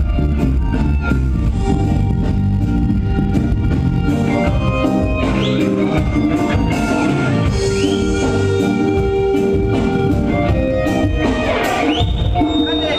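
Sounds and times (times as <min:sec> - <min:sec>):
reggae band playing: 0:00.0 - 0:12.9.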